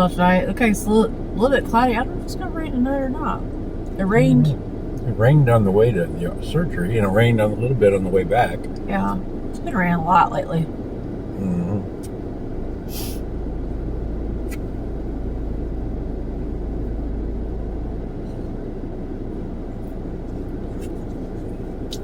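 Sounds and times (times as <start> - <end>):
car engine rumble inside cabin: 0.0 - 22.0.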